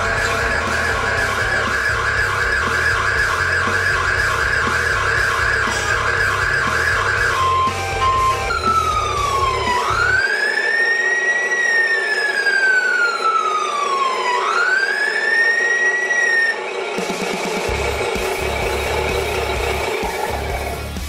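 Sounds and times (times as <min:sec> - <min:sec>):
wail siren sweeping in pitch: 0:00.0 - 0:20.9.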